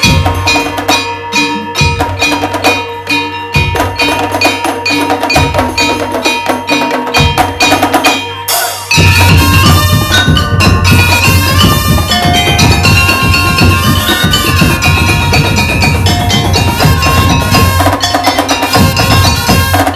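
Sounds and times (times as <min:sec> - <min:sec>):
hand drums and barrel drums: 0:00.0 - 0:19.9
mallet-struck keyed instruments: 0:00.0 - 0:19.9.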